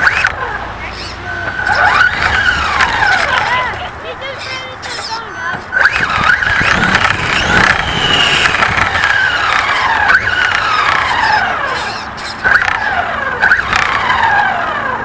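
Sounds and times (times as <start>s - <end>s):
electric motor of toy car whining: 1.0s - 3.7s, 5.0s - 15.0s.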